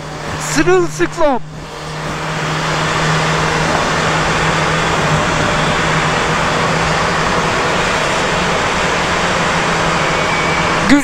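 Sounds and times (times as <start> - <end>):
motorcycle engine hum: 0.0 - 11.0
wind and rain rushing: 1.4 - 10.9.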